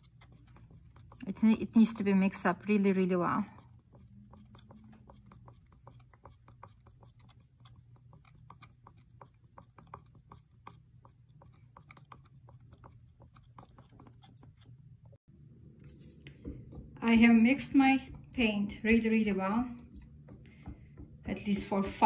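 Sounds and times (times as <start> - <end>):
stick stirring paint in bucket: 0.0 - 22.0.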